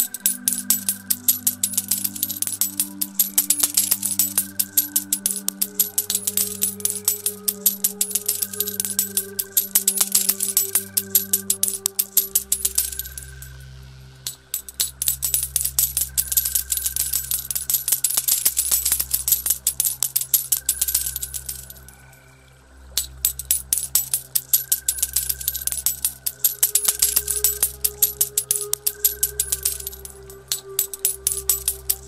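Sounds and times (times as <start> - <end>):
coins clinking and jingling: 0.0 - 13.6, 14.2 - 22.0, 23.0 - 32.0
low synth drone music: 0.0 - 32.0.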